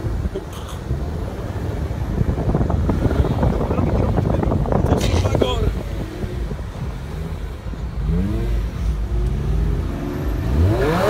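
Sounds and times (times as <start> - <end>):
steady low rumble: 0.0 - 10.6
car engine revving: 0.0 - 11.0.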